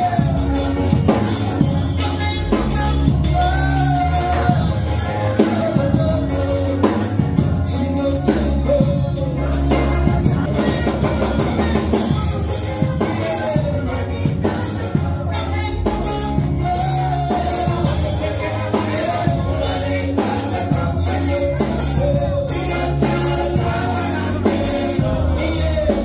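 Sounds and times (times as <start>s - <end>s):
drum kit and bass music: 0.0s - 26.0s
man singing gospel into microphone: 0.0s - 26.0s.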